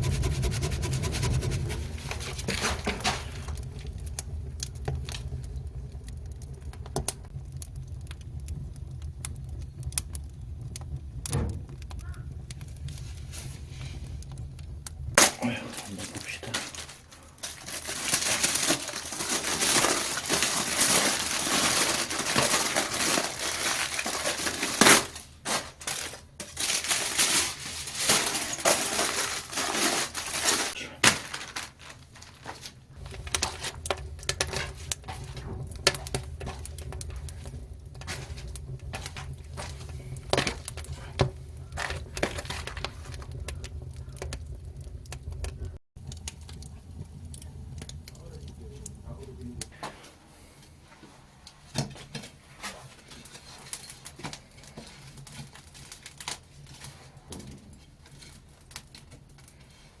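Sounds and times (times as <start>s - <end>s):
firewood crackling and snapping: 0.0s - 50.8s, 51.4s - 60.0s
low steady rumble: 0.0s - 51.4s.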